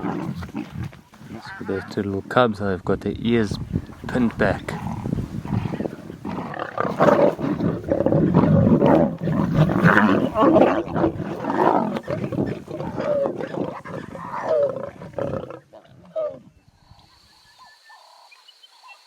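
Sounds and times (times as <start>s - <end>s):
lion cubs growling: 0.0s - 2.2s, 3.8s - 17.2s.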